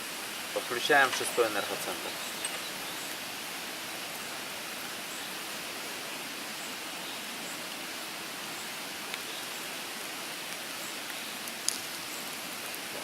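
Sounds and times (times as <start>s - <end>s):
steady hiss like rushing water: 0.0s - 13.0s.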